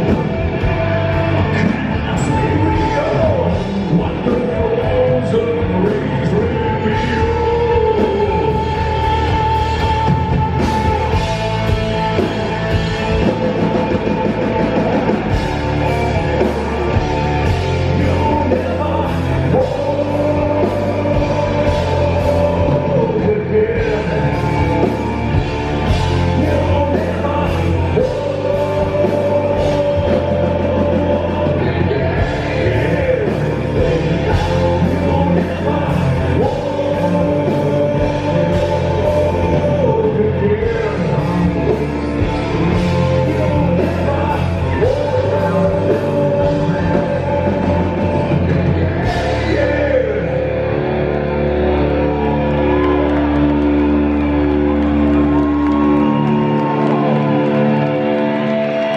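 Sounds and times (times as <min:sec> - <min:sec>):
bass guitar: 0:00.0 - 0:58.9
distorted electric guitars: 0:00.0 - 0:58.9
drums: 0:00.0 - 0:58.9
sung vocals: 0:00.0 - 0:58.9.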